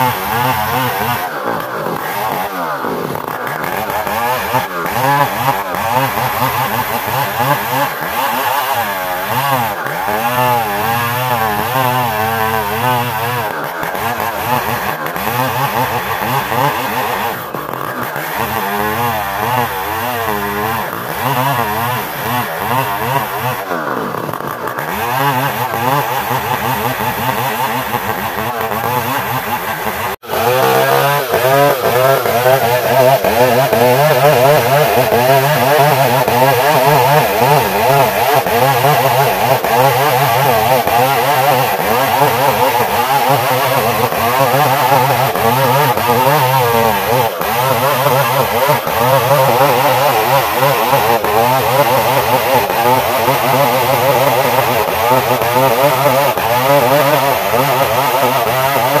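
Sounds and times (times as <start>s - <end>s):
chainsaw cutting through log: 0.0s - 59.0s.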